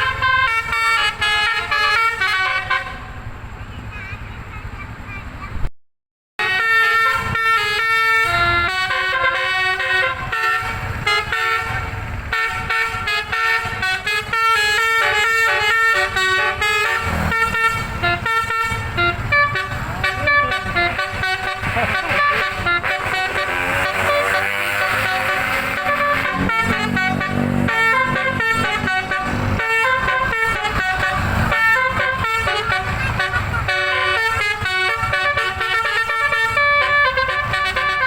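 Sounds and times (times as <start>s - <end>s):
multi-tone bus air horns playing tune: 0.0s - 3.5s, 6.4s - 38.0s.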